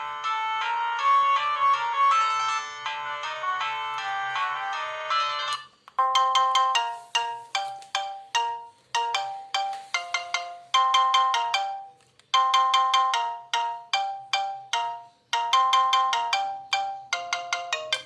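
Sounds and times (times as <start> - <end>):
mobile phone ringtone melody: 0.0 - 18.0.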